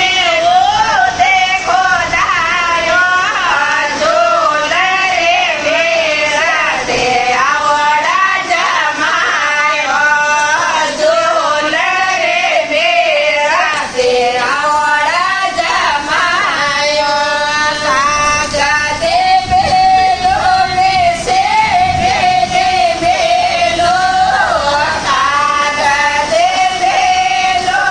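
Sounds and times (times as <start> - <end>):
woman singing wedding song: 0.0 - 27.9.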